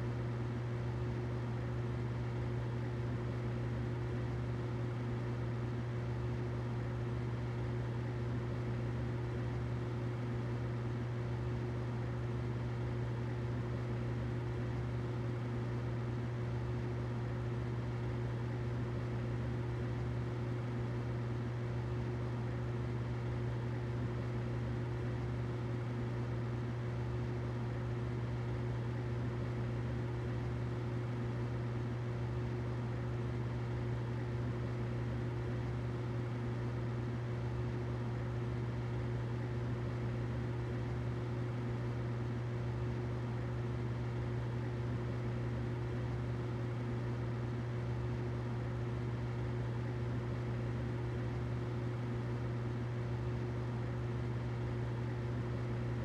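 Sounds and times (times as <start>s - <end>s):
humidifier hum and hiss: 0.0s - 56.0s.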